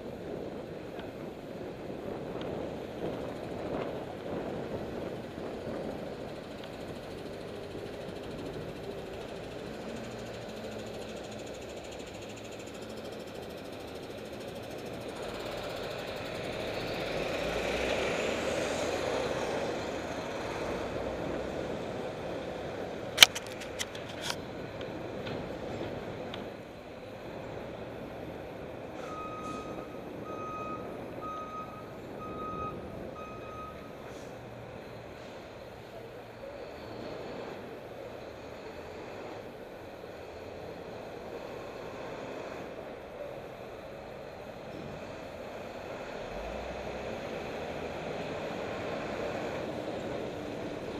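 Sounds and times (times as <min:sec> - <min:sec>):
city traffic: 0:00.0 - 0:50.9
road and wind noise: 0:00.0 - 0:50.9.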